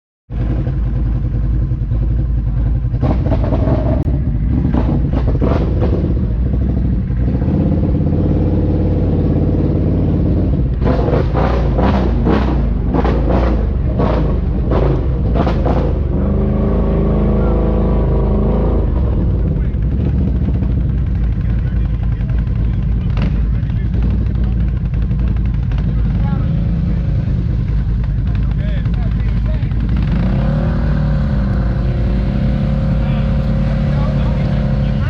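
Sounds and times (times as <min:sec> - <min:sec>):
atv engines running: 0:00.3 - 0:35.0
rough bursts of engine noise: 0:00.3 - 0:35.0.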